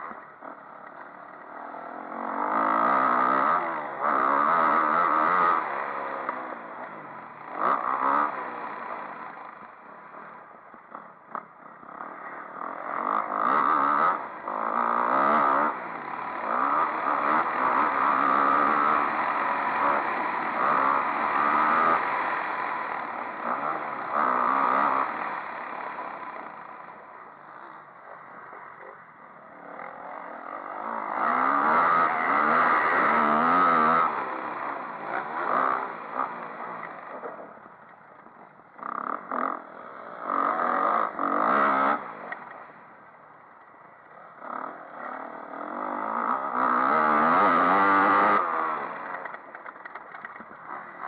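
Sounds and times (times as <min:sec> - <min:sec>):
dirt bike engine revving: 0:00.0 - 0:37.7, 0:38.8 - 0:42.8, 0:44.1 - 0:51.0.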